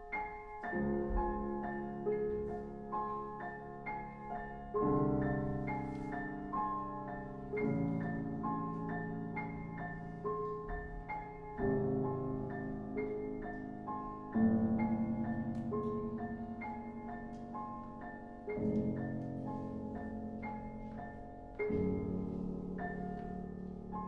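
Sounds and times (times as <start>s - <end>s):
piano low chords: 0.0s - 24.0s.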